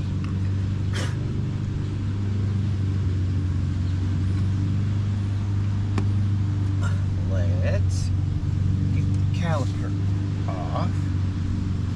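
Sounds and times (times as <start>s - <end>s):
low mechanical hum of machine: 0.0s - 11.9s.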